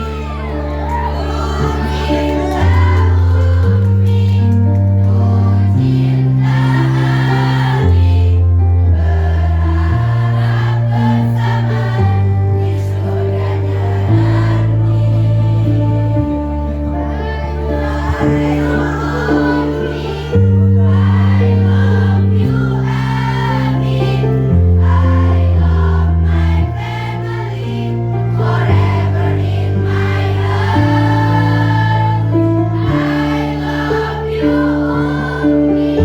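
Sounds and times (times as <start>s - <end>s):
choir singing: 0.0s - 36.0s
instrumental accompaniment: 0.0s - 36.0s.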